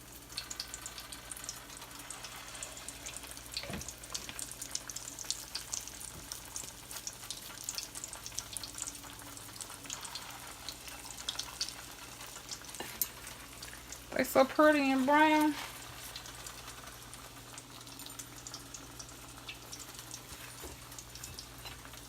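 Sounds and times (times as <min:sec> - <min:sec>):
patties sizzling in hot grease: 0:00.0 - 0:22.0.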